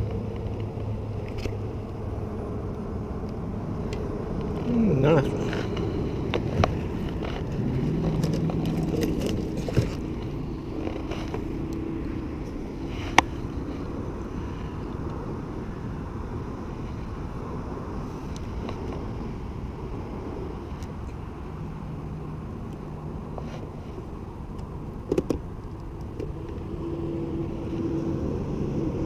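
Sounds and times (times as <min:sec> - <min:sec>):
electric trolling motor running: 0:00.0 - 0:23.3.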